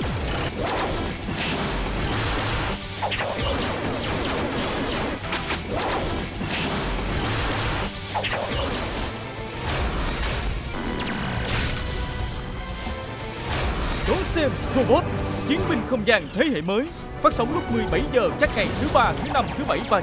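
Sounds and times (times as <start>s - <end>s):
dramatic action trailer music: 0.0s - 20.0s.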